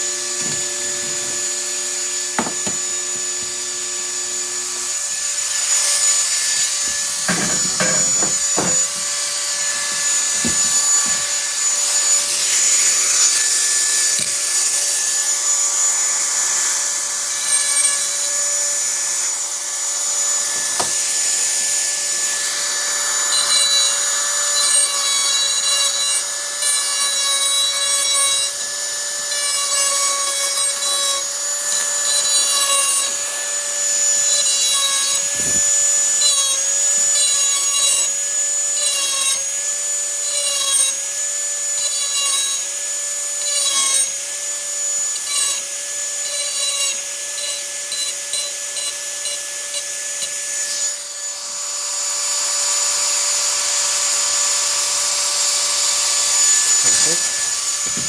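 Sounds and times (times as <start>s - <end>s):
grinding bit rasping on steel: 0.0s - 51.4s, 53.2s - 58.0s
rotary tool whining: 0.0s - 58.0s.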